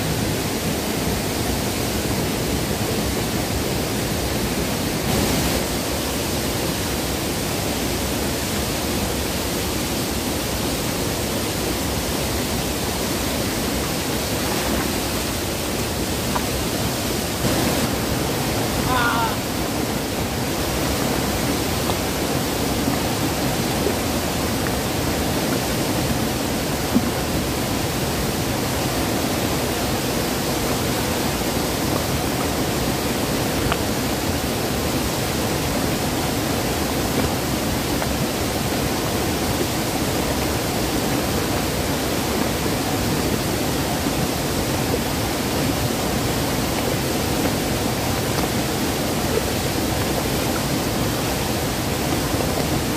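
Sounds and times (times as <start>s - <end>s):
white water rushing over boulders: 0.0s - 52.9s.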